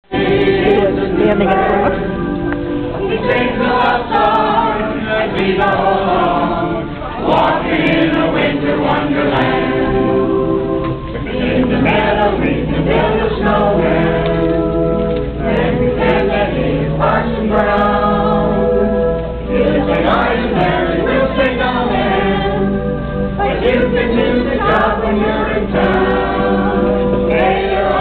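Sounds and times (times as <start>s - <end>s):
carolers singing: 0.0s - 28.0s.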